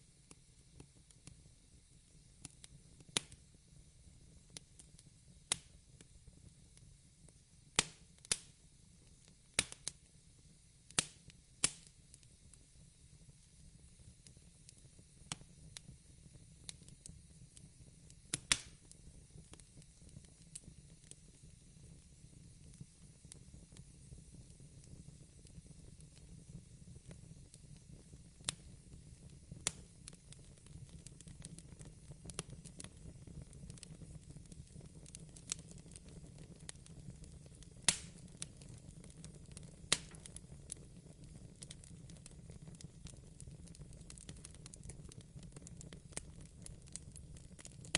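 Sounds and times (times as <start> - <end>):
fireplace crackling: 0.0 - 47.9.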